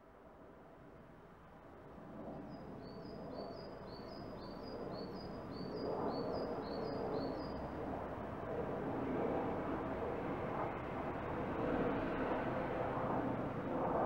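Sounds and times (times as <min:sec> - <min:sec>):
jet airliner rumble overhead: 0:00.1 - 0:14.0.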